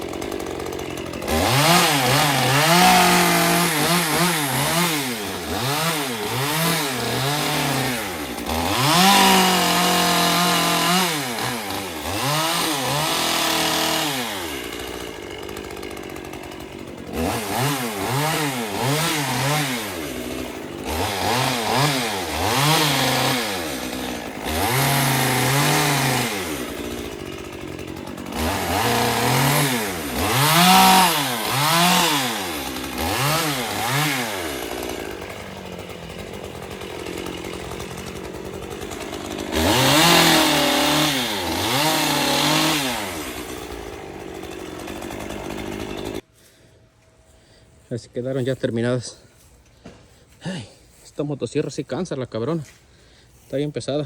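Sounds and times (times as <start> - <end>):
chainsaw revving: 0.0 - 46.3.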